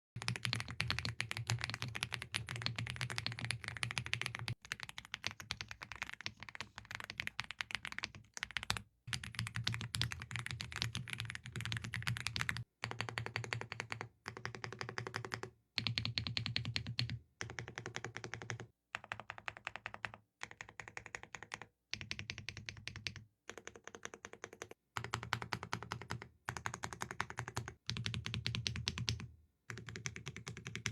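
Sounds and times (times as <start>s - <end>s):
fast typing on mechanical keyboard: 0.2s - 30.9s.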